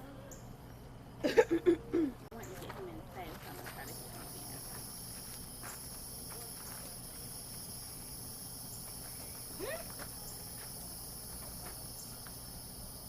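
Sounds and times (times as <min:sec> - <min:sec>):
crickets and insects chirping: 0:00.2 - 0:13.0.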